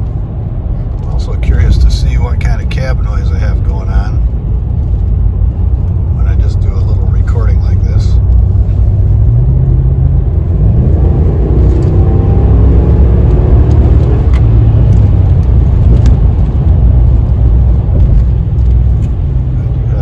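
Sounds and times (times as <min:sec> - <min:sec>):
truck engine accelerating hard: 0:03.9 - 0:20.0.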